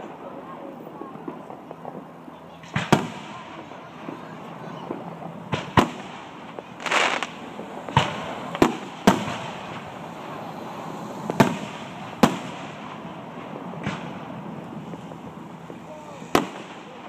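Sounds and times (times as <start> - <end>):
fireworks bangs: 0.0 - 17.0
hissing crackle: 0.0 - 17.0.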